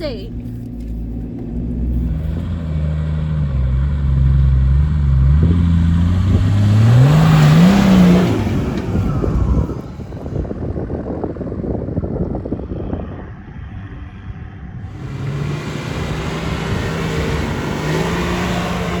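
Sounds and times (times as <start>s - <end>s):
off-road vehicle engine accelerating: 0.0s - 19.0s.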